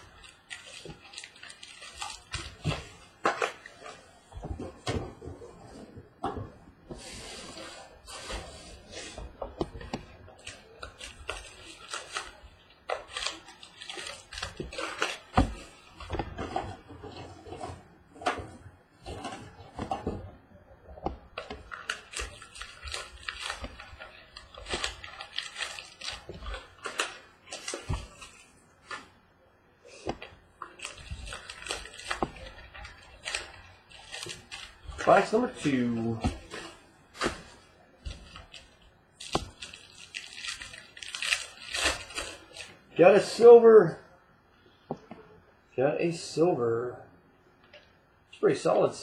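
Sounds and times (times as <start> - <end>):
plastic wrap and cardboard rustling: 0.0 - 43.9.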